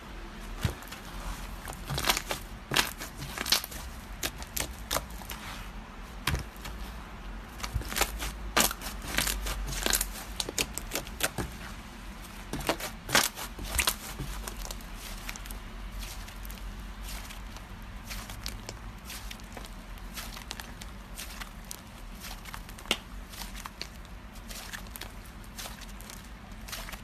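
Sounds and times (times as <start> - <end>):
slime squished by hand: 0.6 - 27.0.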